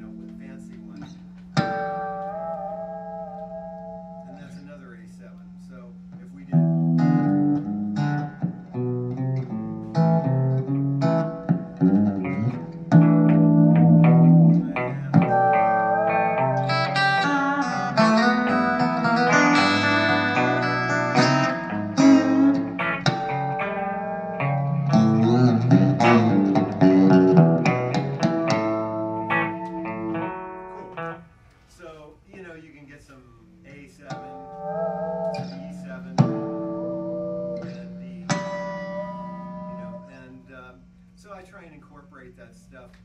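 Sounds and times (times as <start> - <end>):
electric guitar through amplifier: 0.0 - 31.6, 34.0 - 41.2.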